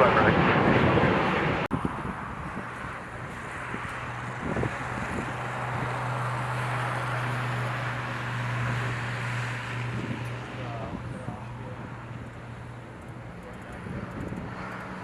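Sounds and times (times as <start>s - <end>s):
wind on microphone: 0.0s - 12.2s, 13.5s - 15.0s
engine rumble: 0.0s - 15.0s.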